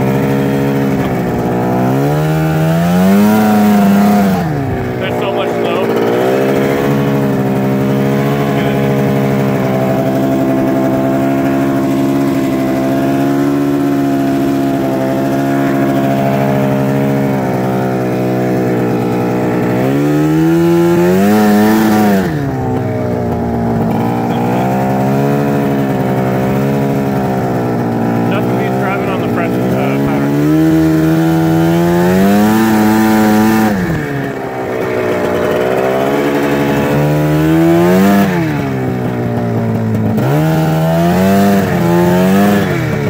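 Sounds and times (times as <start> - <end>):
snowmobile engine running: 0.0 - 43.0.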